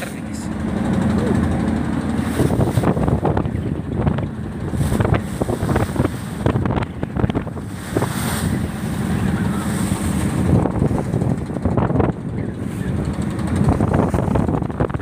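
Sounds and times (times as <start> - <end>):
boat engine: 0.0 - 15.0
wind buffeting microphone: 0.5 - 15.0
hull slapping through waves: 0.6 - 15.0.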